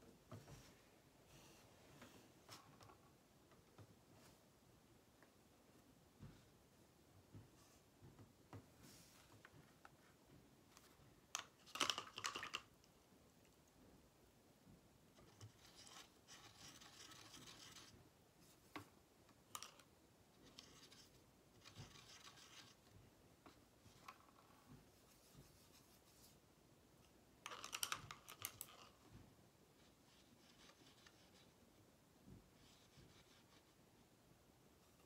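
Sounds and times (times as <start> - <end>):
faint scratching and rustling: 0.1 - 6.6, 7.3 - 12.1, 15.0 - 35.0.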